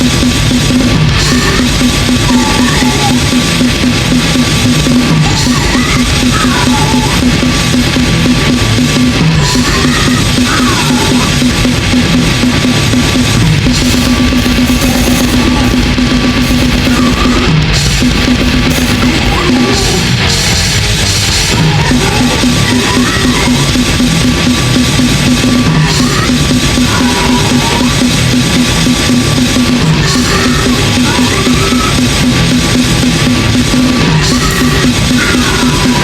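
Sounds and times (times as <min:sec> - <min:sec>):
blast-beat drums: 0:00.0 - 0:36.0
distorted guitars: 0:00.0 - 0:36.0.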